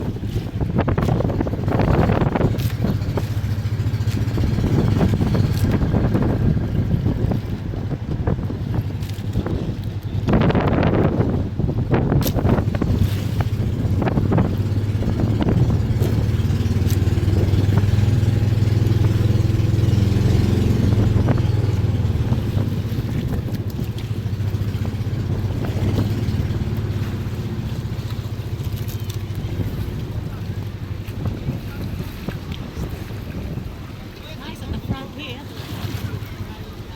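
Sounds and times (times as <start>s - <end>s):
boat engine humming: 0.0s - 36.9s.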